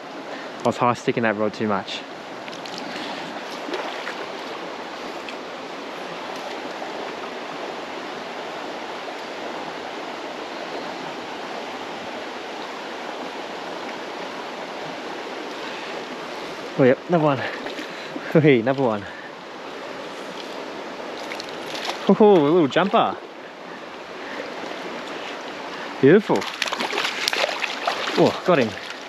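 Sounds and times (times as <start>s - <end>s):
creek water over rocks: 0.0s - 29.0s.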